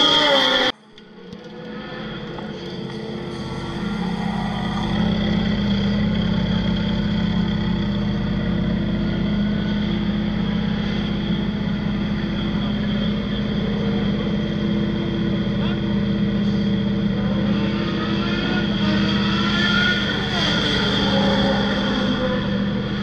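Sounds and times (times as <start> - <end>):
race car engine idling: 1.0 - 23.0.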